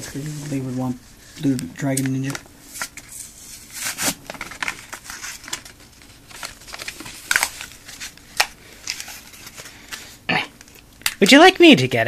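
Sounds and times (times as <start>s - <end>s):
packaging crinkling: 1.5s - 11.2s.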